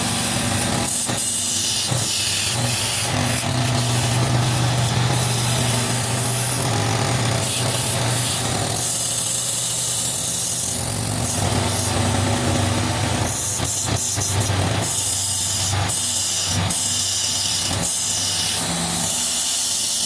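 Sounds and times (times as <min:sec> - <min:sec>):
chisel cutting wood hiss: 0:00.0 - 0:20.0
wood lathe motor hum: 0:00.0 - 0:20.0.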